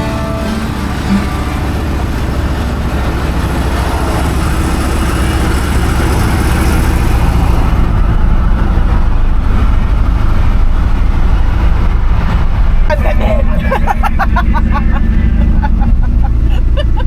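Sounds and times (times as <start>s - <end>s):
road noise: 0.0s - 17.0s
vehicle engine droning: 0.0s - 17.0s.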